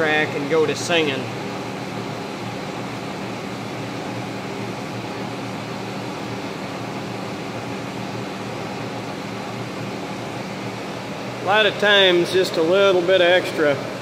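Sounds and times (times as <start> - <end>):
boring mill humming: 0.0 - 14.0.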